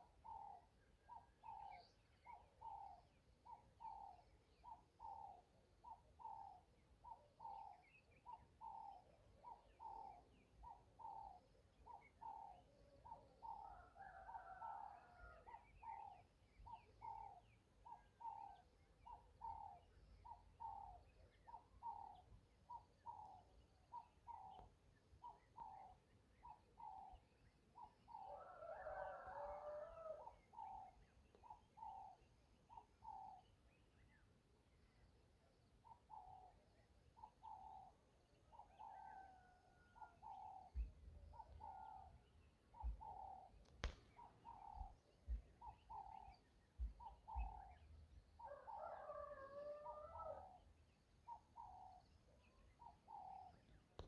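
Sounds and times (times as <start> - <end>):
faint repeated bird call: 0.0 - 54.0
mixed bird chirping: 0.0 - 54.0.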